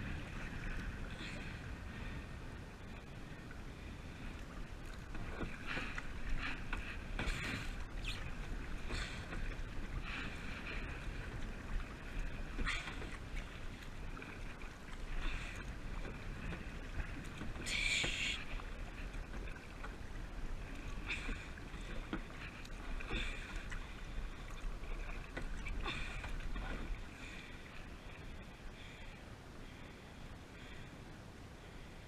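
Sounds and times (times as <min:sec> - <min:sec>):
paddle strokes splashing water: 0:00.0 - 0:30.0
wind rumble on microphone: 0:00.0 - 0:32.0.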